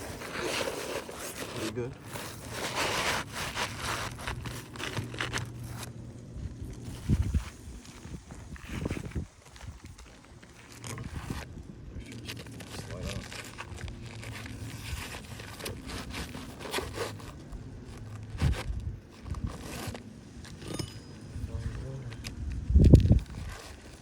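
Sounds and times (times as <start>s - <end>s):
crinkling and scraping on shingles: 0.0s - 24.0s.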